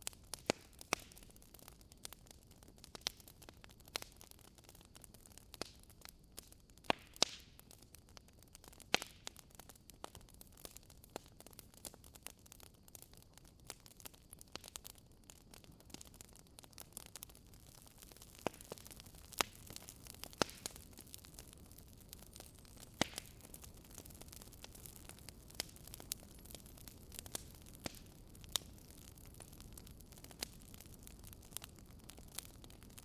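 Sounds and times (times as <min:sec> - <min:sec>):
low fire hiss: 0:00.0 - 0:33.0
wood fire crackling: 0:00.0 - 0:33.0.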